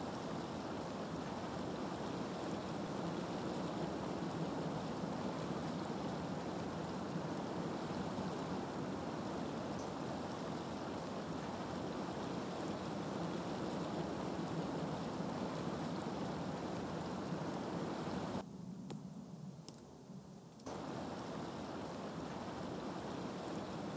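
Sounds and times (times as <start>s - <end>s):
flowing river water: 0.0s - 18.4s, 20.7s - 23.9s.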